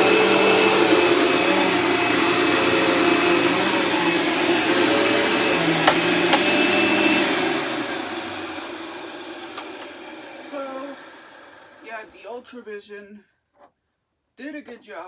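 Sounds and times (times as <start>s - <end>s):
vacuum cleaner running: 0.0s - 12.4s.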